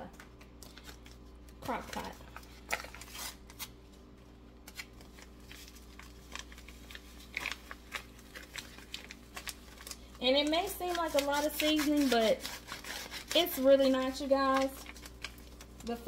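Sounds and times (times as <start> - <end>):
paper packets rustling: 0.0 - 16.0.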